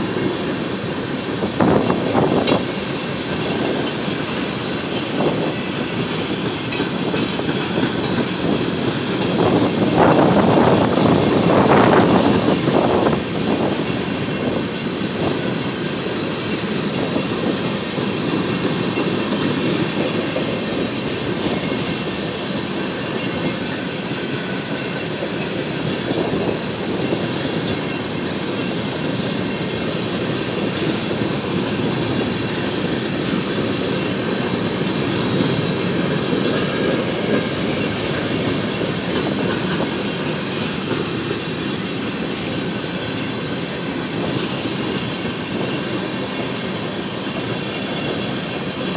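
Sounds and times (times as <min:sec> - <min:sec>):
train wheels clacking over rail joints: 0:00.0 - 0:48.9.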